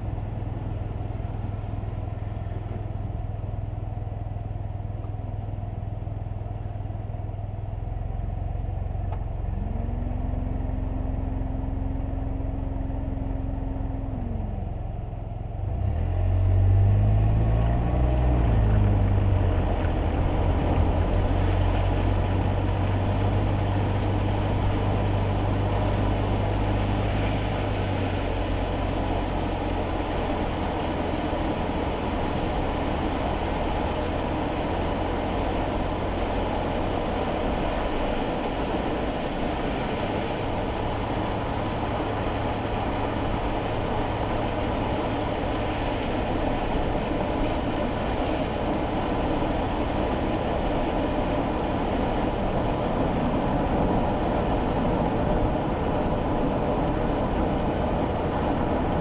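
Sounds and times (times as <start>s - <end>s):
low engine hum: 0.0s - 59.0s
tyre noise on wet road: 0.0s - 59.0s.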